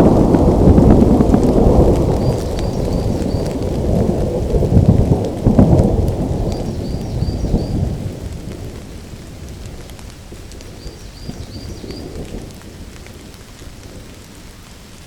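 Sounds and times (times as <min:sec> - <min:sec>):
steady rain falling: 0:00.0 - 0:15.0
thunder rumbling: 0:00.0 - 0:15.0.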